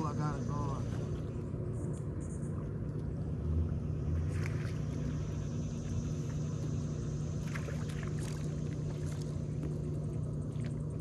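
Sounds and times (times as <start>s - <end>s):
distant ship engine hum: 0.0s - 11.0s.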